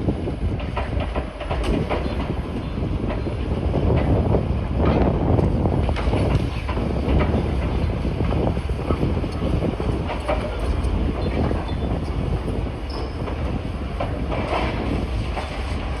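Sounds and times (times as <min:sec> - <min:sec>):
demolition machinery rumbling: 0:00.0 - 0:16.0.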